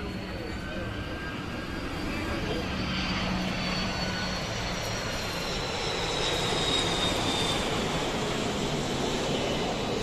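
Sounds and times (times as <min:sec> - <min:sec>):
jet airliner passing low: 0:00.0 - 0:10.0.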